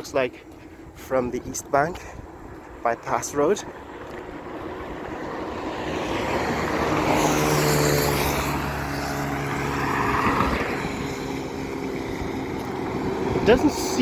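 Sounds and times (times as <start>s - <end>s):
vehicle passing on road: 0.0s - 14.0s.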